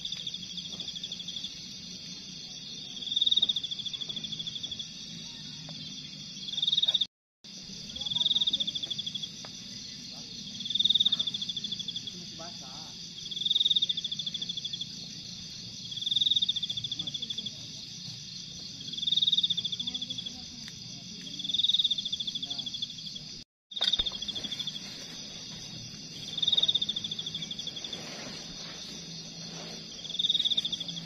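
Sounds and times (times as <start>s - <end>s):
insect chorus: 0.0s - 31.0s
insect pulsed call: 0.0s - 31.0s.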